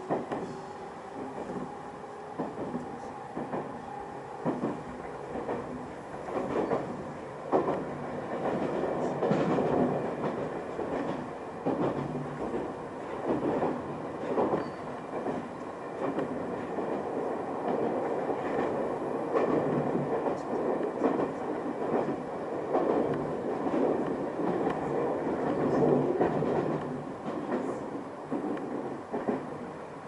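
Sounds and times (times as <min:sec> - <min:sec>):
track clacks: 0:00.0 - 0:29.7
train wheels rumbling on rails: 0:00.0 - 0:30.0.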